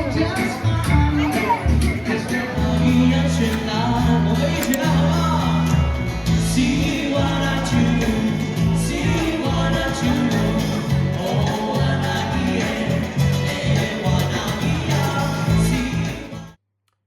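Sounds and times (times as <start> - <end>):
live band music: 0.0 - 16.5
person singing: 0.0 - 16.6
steady bass line: 0.0 - 16.6.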